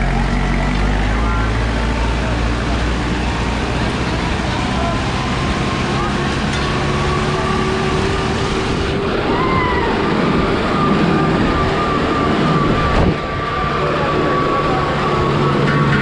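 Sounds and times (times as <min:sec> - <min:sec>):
steady high whine: 0:00.0 - 0:16.0
tractor engine under load: 0:00.0 - 0:16.0.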